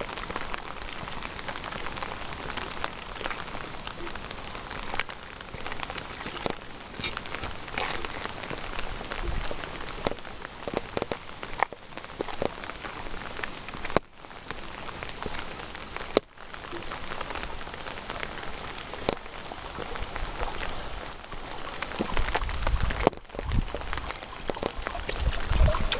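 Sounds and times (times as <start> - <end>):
rain falling: 0.0 - 25.9
raindrops striking near microphone: 0.0 - 25.9.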